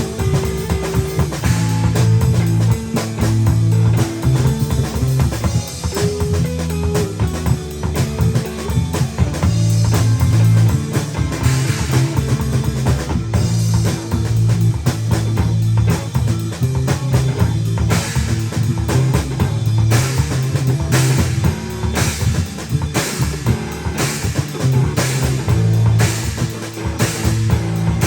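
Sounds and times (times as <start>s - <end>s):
instrumental rock band: 0.0s - 28.0s.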